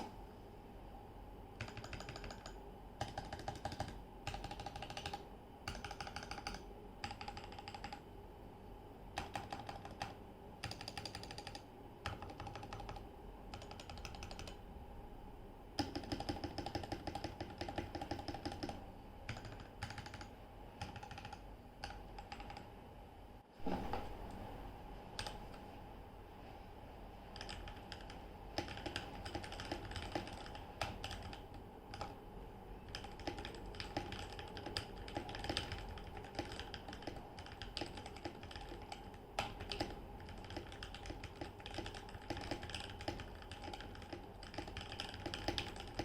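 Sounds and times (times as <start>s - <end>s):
mechanical keyboard typing: 1.6s - 8.0s, 9.2s - 14.6s, 15.8s - 22.7s, 25.2s - 25.6s, 27.4s - 32.2s, 32.8s - 46.0s.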